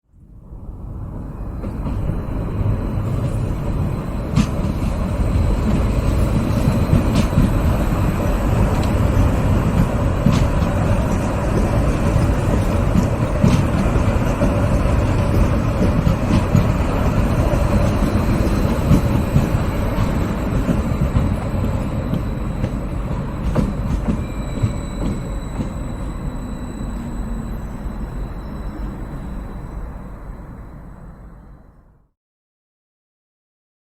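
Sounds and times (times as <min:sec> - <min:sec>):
train rumbling past: 0:00.1 - 0:32.1
train wheels clacking: 0:01.6 - 0:30.9.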